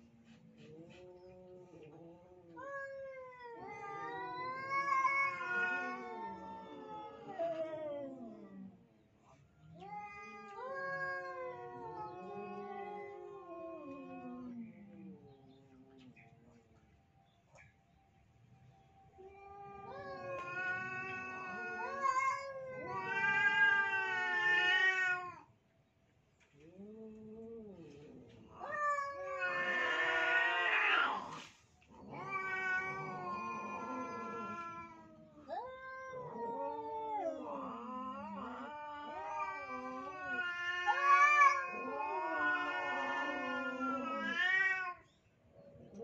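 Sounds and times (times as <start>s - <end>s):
cats yowling: 0.3s - 8.8s, 9.7s - 15.2s, 19.1s - 25.5s, 26.8s - 45.1s.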